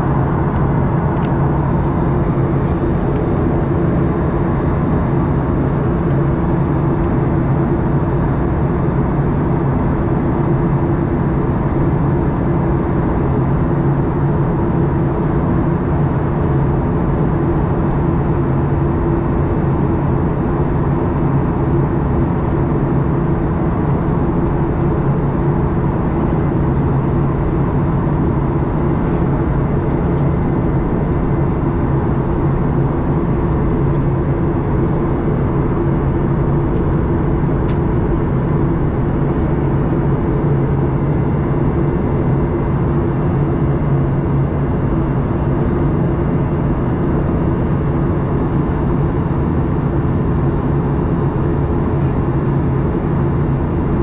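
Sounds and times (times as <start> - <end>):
jet engine hum: 0.0 - 54.0.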